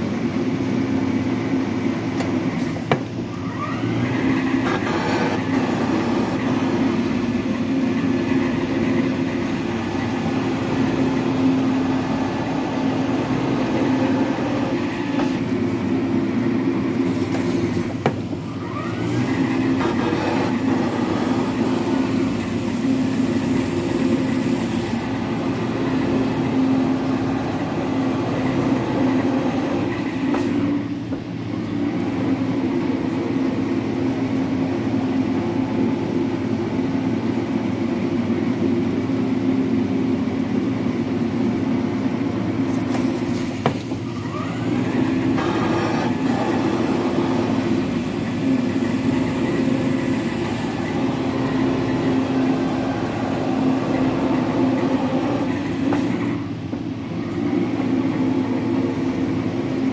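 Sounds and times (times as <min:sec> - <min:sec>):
metal planer mechanical drone: 0:00.0 - 0:59.9.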